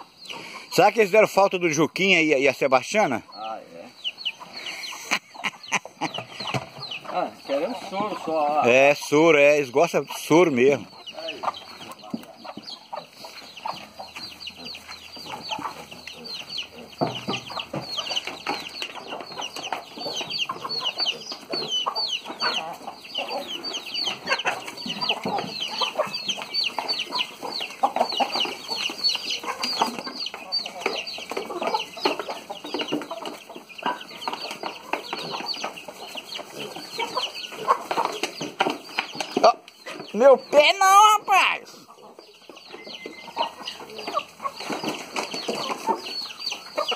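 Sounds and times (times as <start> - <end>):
chicks peeping: 0.0 - 46.9
hens clucking: 0.0 - 46.9.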